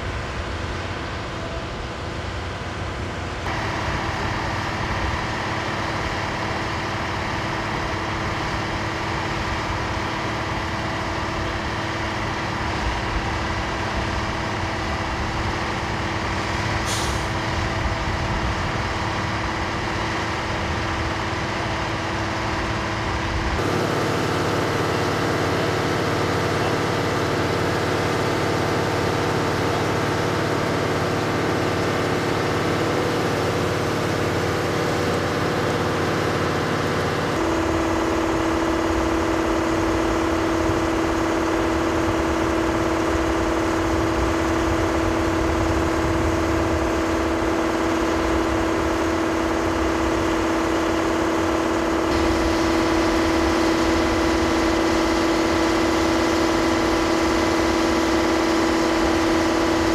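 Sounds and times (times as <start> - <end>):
generator humming: 0.0 - 59.9.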